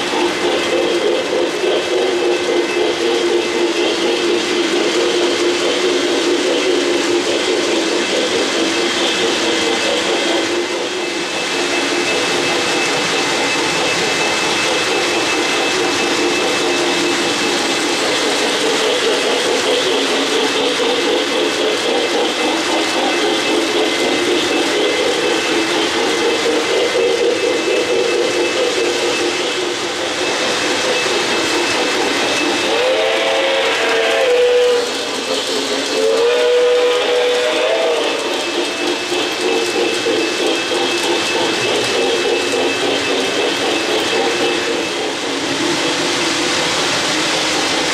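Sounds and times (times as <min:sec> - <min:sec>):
model train wheels rumbling: 0:00.0 - 0:47.9.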